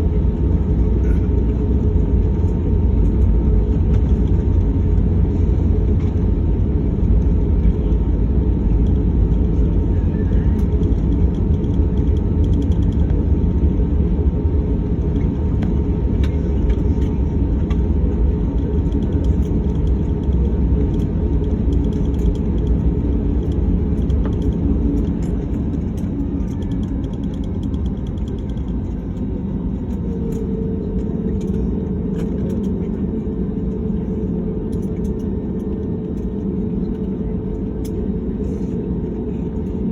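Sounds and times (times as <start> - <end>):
airliner engines rumbling: 0.0 - 39.9.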